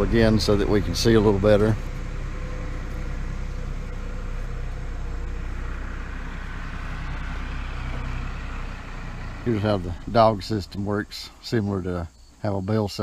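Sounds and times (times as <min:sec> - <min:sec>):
diesel engine idling: 0:00.0 - 0:12.2.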